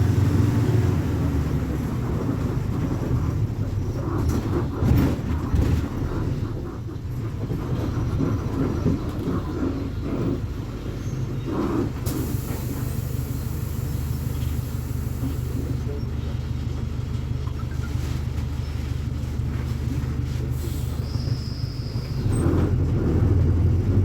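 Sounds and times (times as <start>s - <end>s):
diesel bus engine humming: 0.0s - 24.0s.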